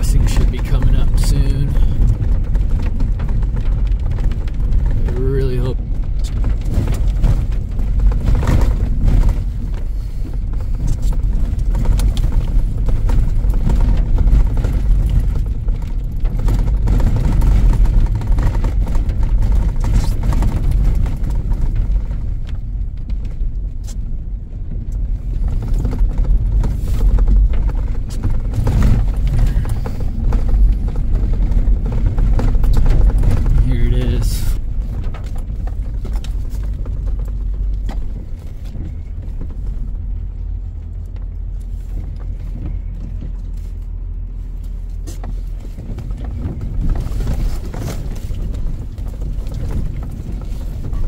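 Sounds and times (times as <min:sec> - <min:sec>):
pickup truck engine and tyres rumbling: 0:00.0 - 0:51.0
truck knocks and rattles: 0:00.0 - 0:51.0.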